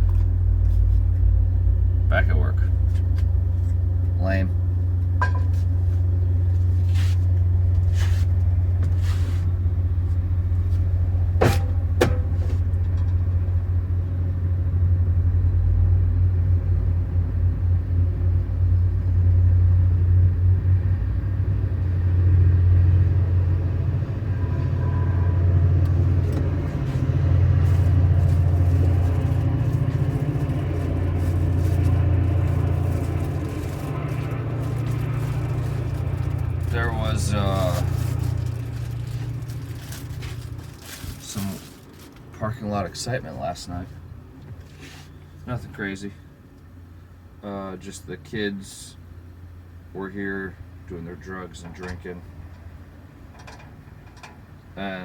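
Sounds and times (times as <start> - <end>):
vehicle rumble on road: 0.0 - 54.8.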